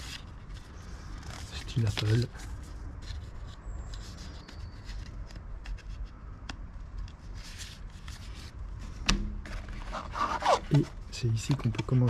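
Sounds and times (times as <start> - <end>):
cardboard and paper rustling: 0.0 - 6.2, 6.8 - 12.0.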